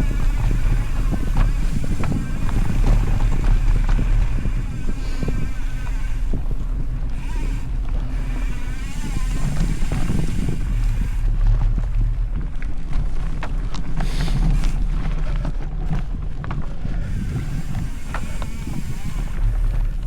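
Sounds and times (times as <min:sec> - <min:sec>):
bike clicks and rattles: 0:00.0 - 0:20.0
bike tyres rumbling on dirt: 0:00.0 - 0:20.0
wind on microphone: 0:00.0 - 0:20.0.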